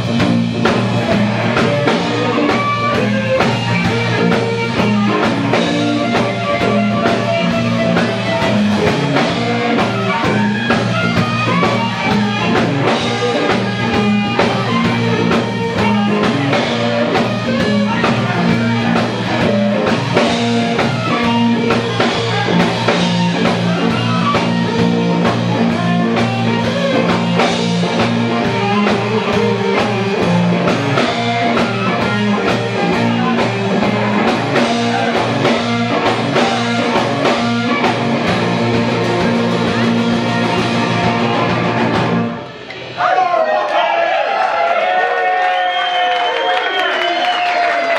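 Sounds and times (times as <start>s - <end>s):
blues-rock band playing: 0.0s - 43.0s.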